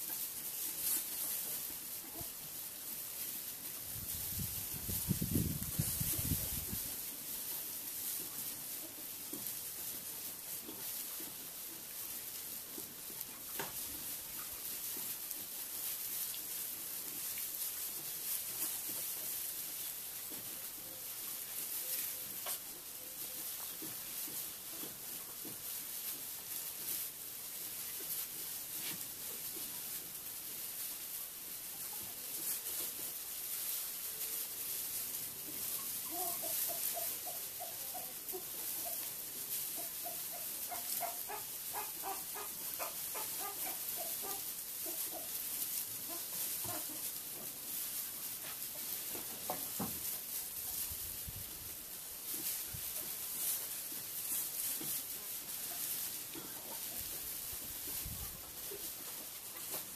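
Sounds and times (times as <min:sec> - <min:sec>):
piglets rustling through straw: 0:00.0 - 0:59.9.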